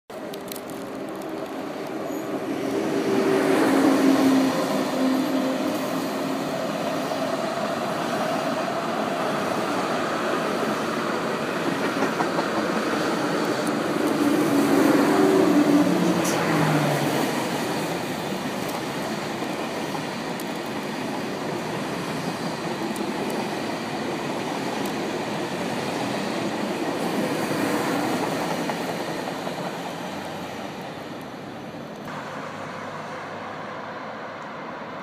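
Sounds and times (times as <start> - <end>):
train wheels rushing on rail: 0.1 - 35.0.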